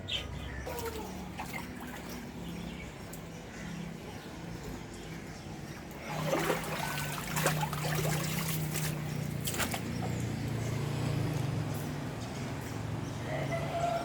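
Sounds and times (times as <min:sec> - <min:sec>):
floodwater splashing and trickling: 0:00.4 - 0:13.0.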